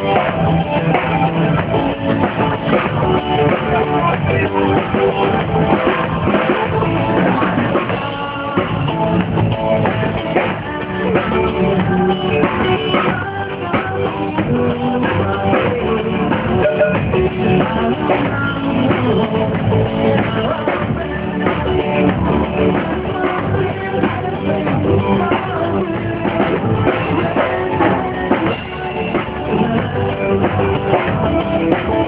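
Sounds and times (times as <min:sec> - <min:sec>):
rock band through car speakers: 0:00.0 - 0:32.0.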